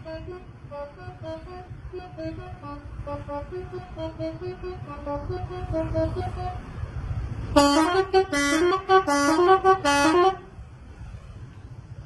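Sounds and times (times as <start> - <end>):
musical air horn: 0.0 - 6.8, 7.5 - 10.6
low traffic rumble: 0.0 - 12.0.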